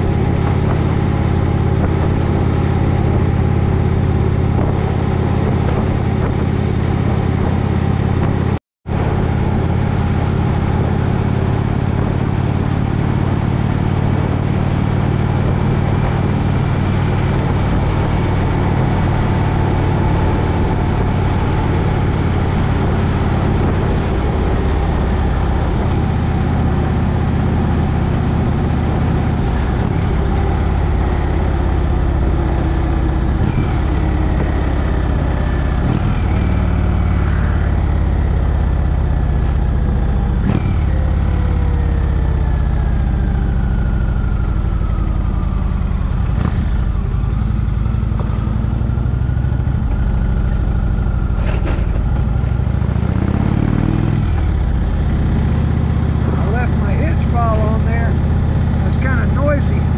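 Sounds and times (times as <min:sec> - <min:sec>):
wind rushing over microphone: 0:00.0 - 0:42.2, 0:42.9 - 0:59.9
motorcycle engine running: 0:00.0 - 0:59.9.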